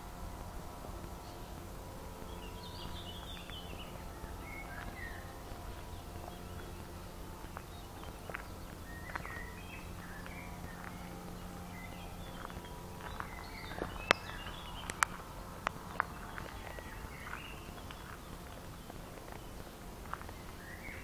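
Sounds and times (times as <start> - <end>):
footsteps on dirt path: 0.0 - 21.0
songbirds chirping: 0.0 - 21.0.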